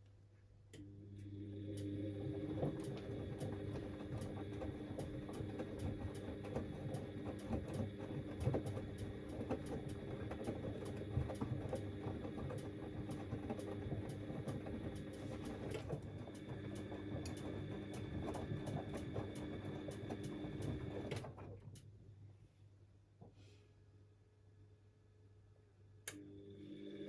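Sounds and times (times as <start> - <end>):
washing machine motor whine: 0.8 - 21.7, 26.1 - 27.0.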